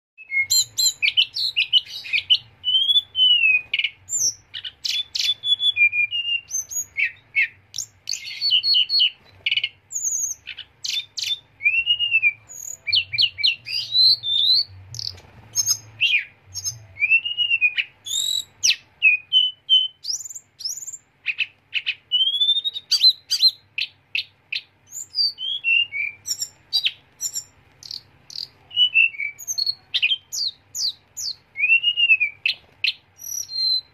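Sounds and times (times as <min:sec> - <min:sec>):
bird singing whistled song: 0:00.2 - 0:33.9.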